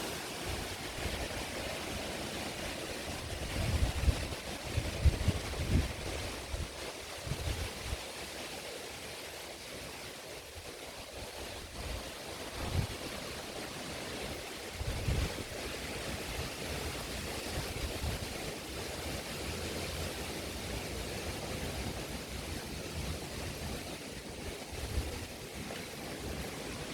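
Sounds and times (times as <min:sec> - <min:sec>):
heavy rain falling: 0:00.0 - 0:08.5, 0:10.5 - 0:26.9.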